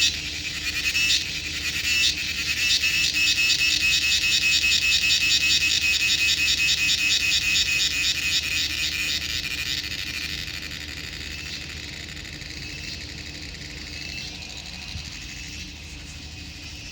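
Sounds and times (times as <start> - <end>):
cricket chirping: 0.0 - 16.9.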